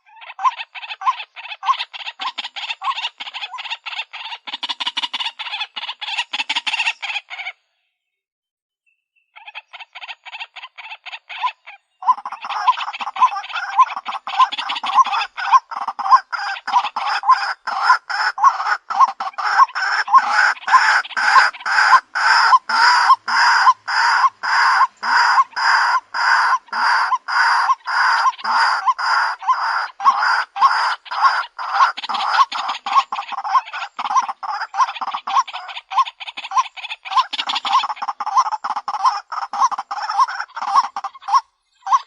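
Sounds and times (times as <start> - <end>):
waterhen clucking call: 0.0 - 7.6, 9.4 - 42.0.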